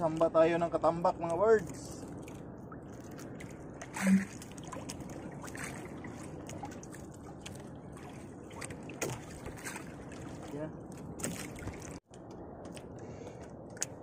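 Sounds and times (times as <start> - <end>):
water sloshing against boat hull: 0.0 - 12.1.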